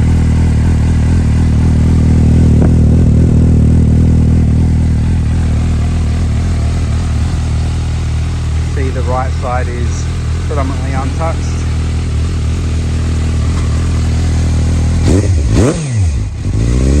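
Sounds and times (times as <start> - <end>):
motorcycle engine idling: 0.0 - 16.7.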